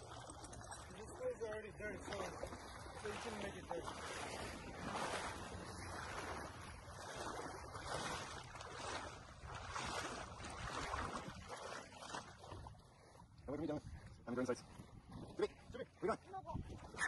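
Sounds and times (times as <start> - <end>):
water sloshing and splashing: 0.0 - 17.0
wind rumble on microphone: 0.0 - 17.0.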